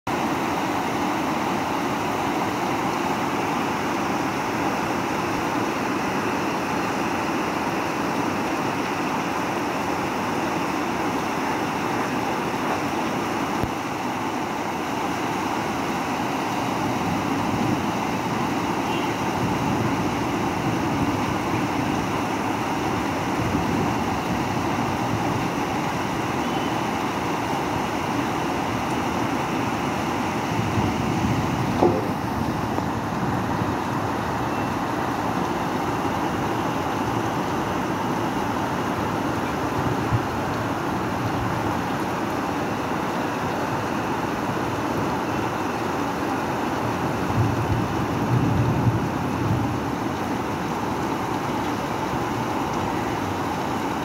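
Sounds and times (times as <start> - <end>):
steady rain: 0.1 - 54.0.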